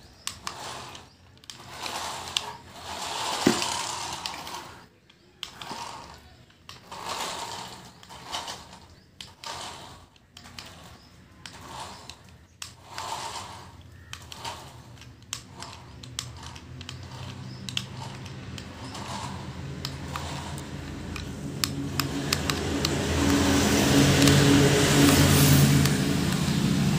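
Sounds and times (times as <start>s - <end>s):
sharp clicks: 0.0s - 26.9s
toy car motors whirring: 0.0s - 26.9s.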